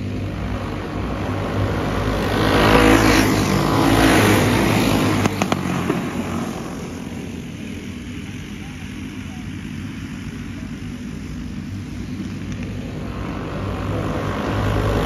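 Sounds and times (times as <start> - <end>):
racing karts passing at full throttle: 0.0 - 15.0.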